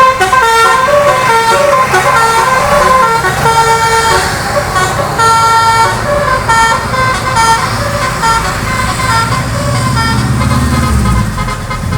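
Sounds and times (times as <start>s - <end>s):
bus air horn playing tune: 0.0s - 11.9s
bus engine rumble: 0.0s - 11.9s.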